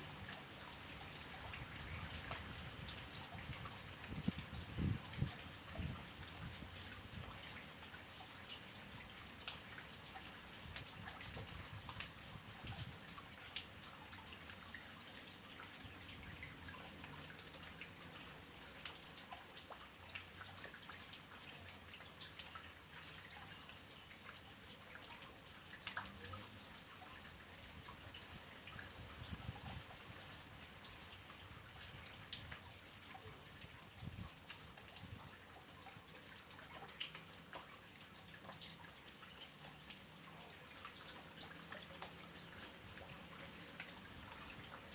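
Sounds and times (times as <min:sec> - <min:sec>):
light rain hiss: 0:00.0 - 0:44.9
raindrops dripping: 0:00.0 - 0:44.9.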